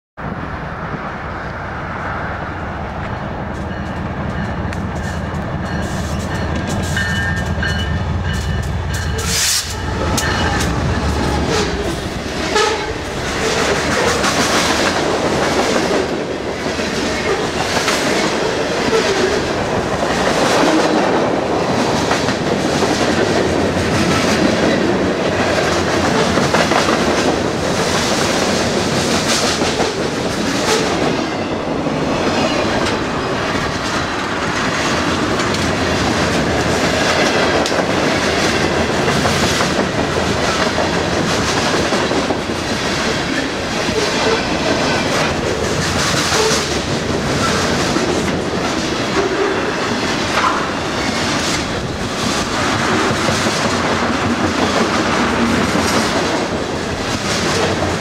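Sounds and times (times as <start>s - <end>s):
diesel locomotive engine hum: 0.2s - 58.0s
freight cars clickety-clack: 3.0s - 58.0s.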